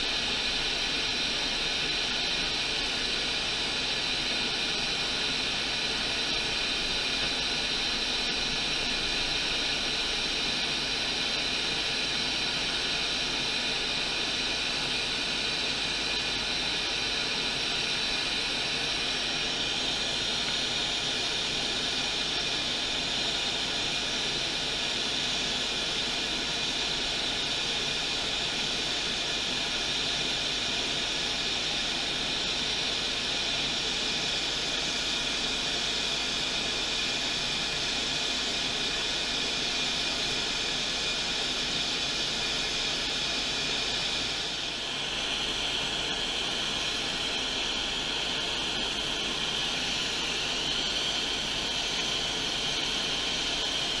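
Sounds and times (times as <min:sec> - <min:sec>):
hot air blower hissing: 0:00.0 - 0:54.0.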